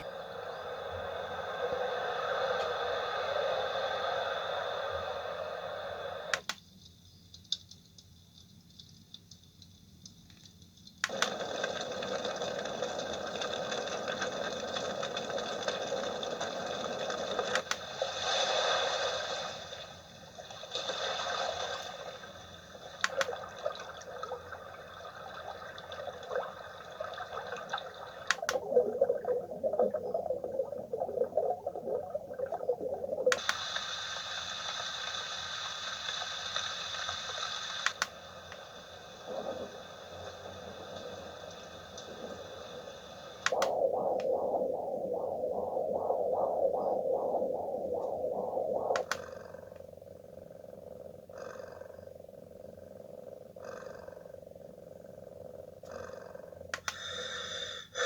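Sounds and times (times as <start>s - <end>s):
white noise machine hissing: 0.0s - 7.3s, 11.0s - 58.0s.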